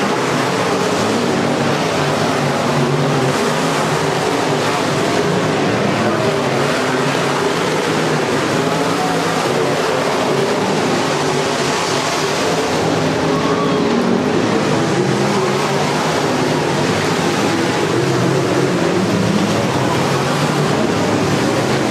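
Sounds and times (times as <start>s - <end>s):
race car engines droning: 0.0s - 21.9s.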